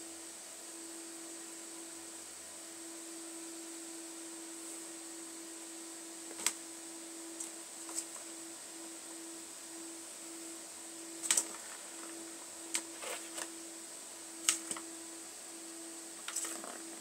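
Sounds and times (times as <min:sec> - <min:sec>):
faint pulsing hum: 0:00.0 - 0:17.0.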